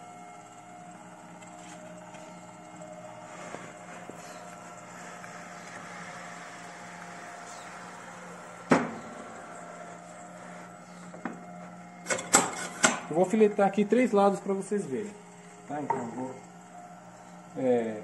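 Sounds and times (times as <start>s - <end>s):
edge-banding machine humming: 0.0s - 18.0s.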